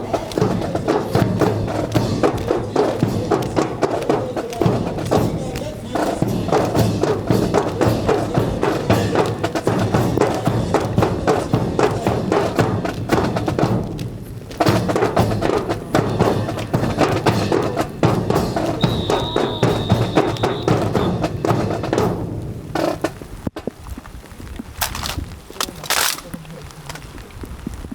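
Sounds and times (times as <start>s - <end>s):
drill rifles clacking and slapping: 0.0s - 22.1s, 24.8s - 27.1s.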